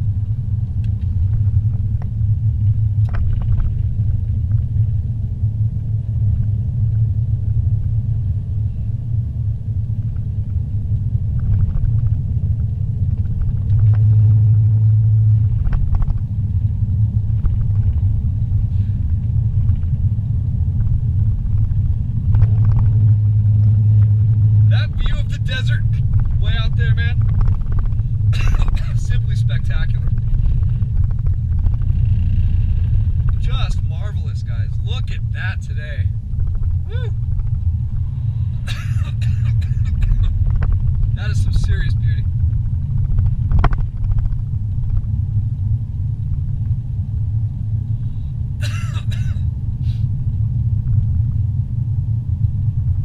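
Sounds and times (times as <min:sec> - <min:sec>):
car interior engine and tyre drone: 0:00.0 - 0:53.0.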